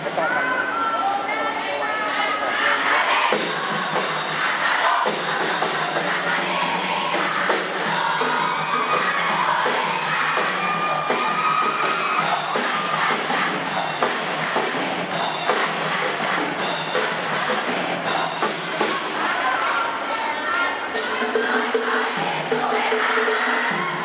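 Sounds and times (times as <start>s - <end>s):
crowd singing a cheer song: 0.0s - 24.0s
music with steady drumbeat: 3.3s - 24.0s.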